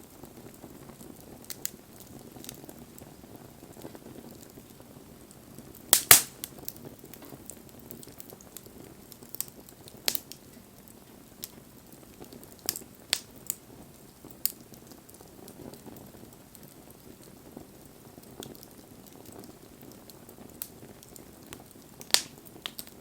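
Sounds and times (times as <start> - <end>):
low rush of flames: 0.0 - 23.0
burning wood pops and cracks: 0.2 - 23.0.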